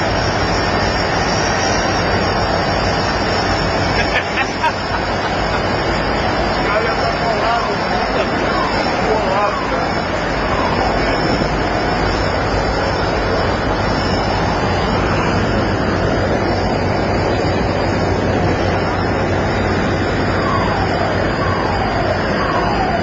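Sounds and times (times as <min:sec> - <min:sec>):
sea noise: 0:00.0 - 0:23.0
vessel engines droning: 0:00.0 - 0:23.0
wind: 0:00.0 - 0:23.0.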